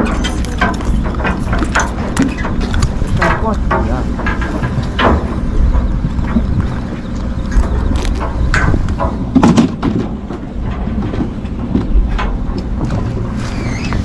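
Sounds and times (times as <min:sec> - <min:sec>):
boat engine low rumble: 0:00.0 - 0:14.0
gear knocks and rustles: 0:00.0 - 0:14.0
wind on microphone: 0:00.0 - 0:14.0.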